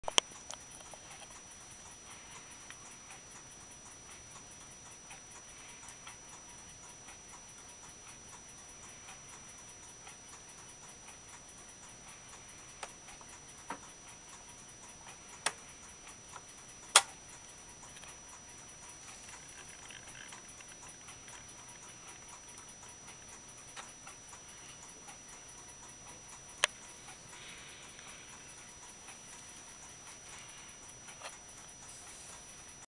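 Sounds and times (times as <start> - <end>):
clock mechanism ticking faintly: 0.0 - 32.9
sharp clock clicks: 0.0 - 32.9.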